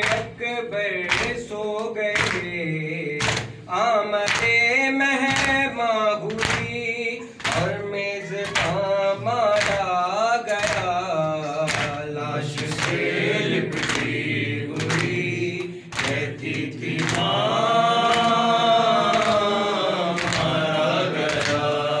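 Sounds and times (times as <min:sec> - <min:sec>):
men chanting together: 0:00.0 - 0:22.0.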